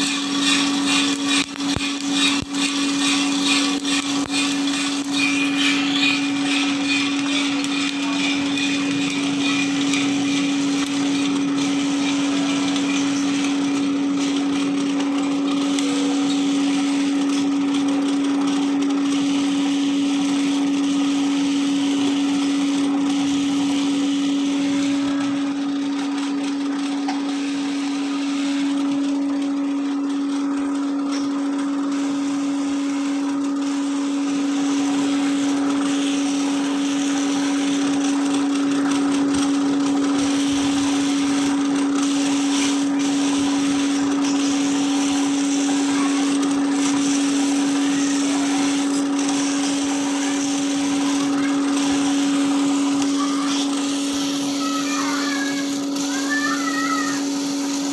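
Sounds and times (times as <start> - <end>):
coffee roaster motor hum: 0.0 - 57.9.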